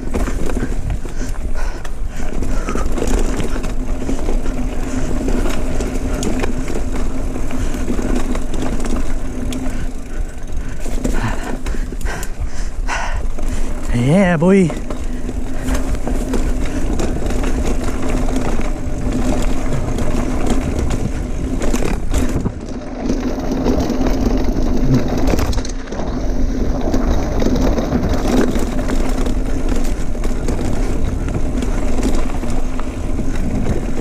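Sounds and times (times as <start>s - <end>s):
bike frame rattling: 0.0s - 34.0s
tyres crunching over gravel: 0.0s - 34.0s
wind buffeting microphone: 0.0s - 34.0s.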